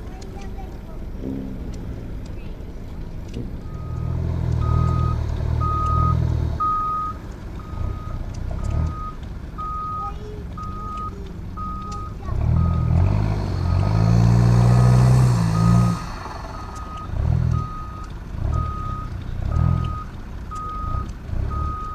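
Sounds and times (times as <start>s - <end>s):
heavy engine revving: 0.4s - 21.9s
reversing alarm beeping: 3.6s - 21.9s.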